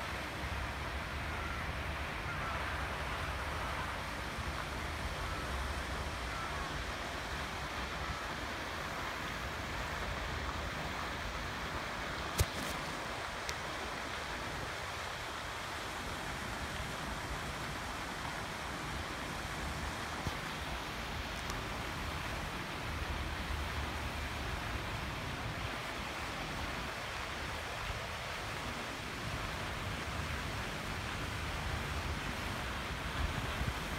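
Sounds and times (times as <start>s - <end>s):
steady background hiss: 0.0s - 33.9s.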